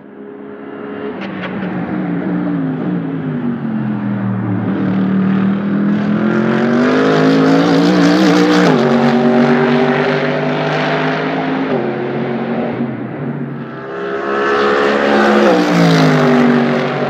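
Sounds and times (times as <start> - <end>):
race car engine accelerating: 0.7 - 17.0.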